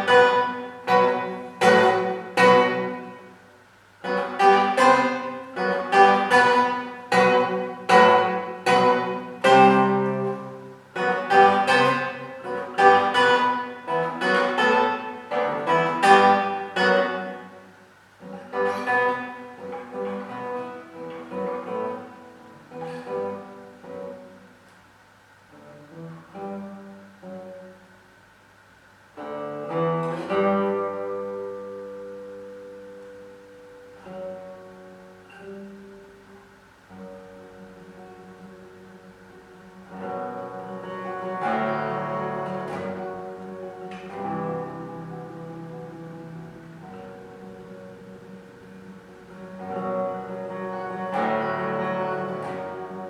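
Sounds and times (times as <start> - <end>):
classical guitar: 0.0 - 53.0.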